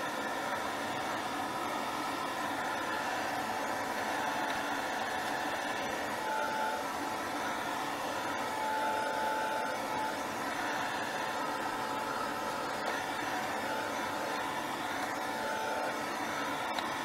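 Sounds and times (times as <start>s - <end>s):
heat tool blowing air: 0.0s - 17.0s.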